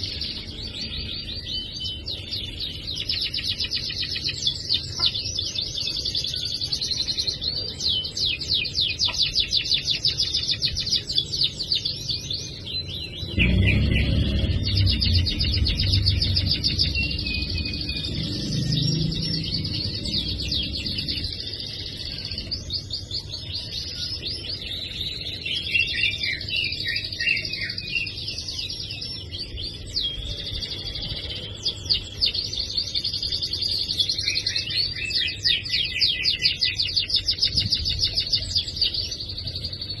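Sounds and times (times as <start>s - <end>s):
canary singing in rapid trills: 0.0s - 40.0s.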